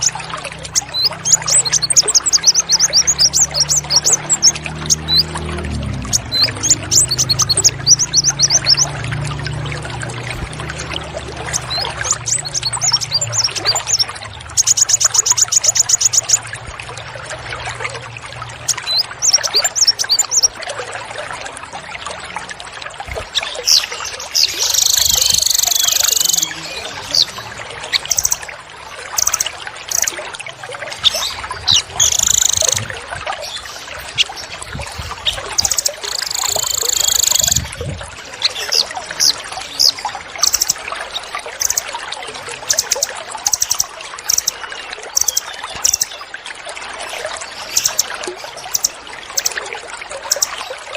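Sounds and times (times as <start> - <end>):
songbirds calling: 0.0 - 50.9
trickle of running water: 0.0 - 50.9.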